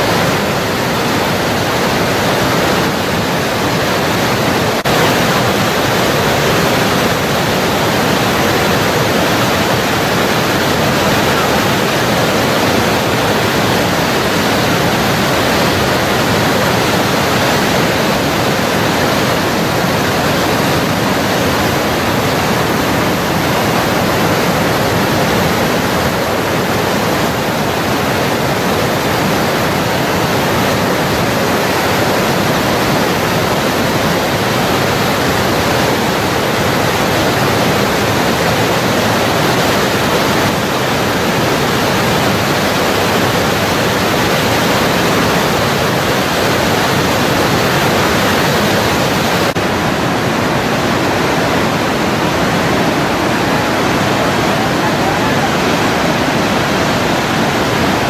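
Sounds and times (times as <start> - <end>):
rushing whitewater: 0.0 - 58.0.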